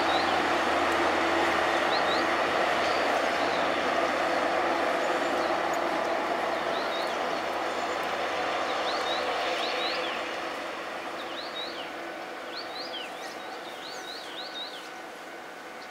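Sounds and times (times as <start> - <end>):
diesel train running on track: 0.0 - 15.9.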